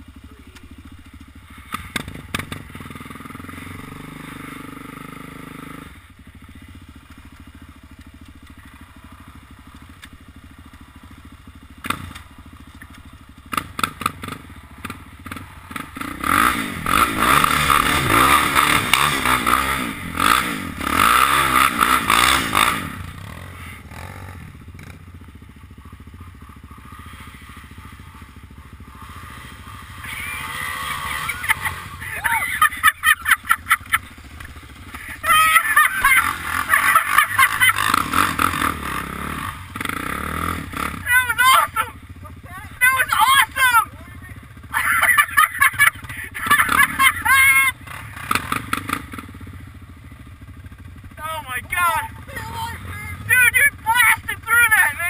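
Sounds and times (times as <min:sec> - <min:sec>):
atv engine idling and revving: 0:00.0 - 0:55.0.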